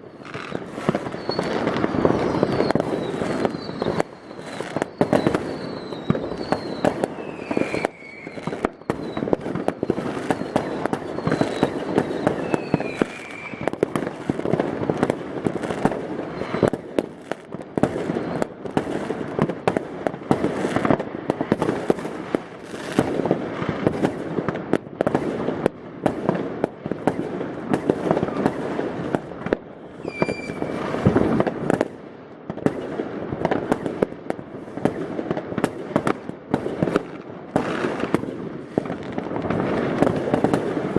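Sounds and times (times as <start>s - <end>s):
firework whistles: 0.0s - 24.5s, 26.9s - 32.0s, 32.6s - 40.9s
fireworks bangs and crackling: 0.0s - 40.9s.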